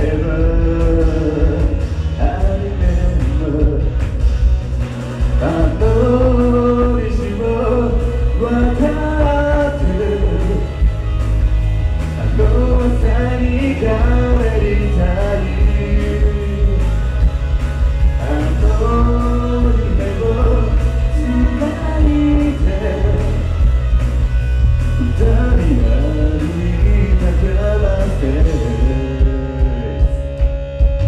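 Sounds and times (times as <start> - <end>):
man singing pop-rock song: 0.0 - 4.6, 5.2 - 11.0, 12.1 - 17.3, 18.0 - 24.0, 24.9 - 30.7
loud band with heavy bass: 0.0 - 31.0.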